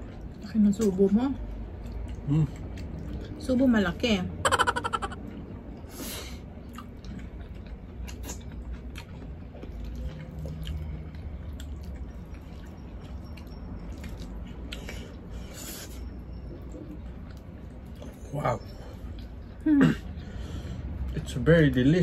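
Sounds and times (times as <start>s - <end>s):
people chewing: 0.0s - 3.4s, 6.6s - 21.2s.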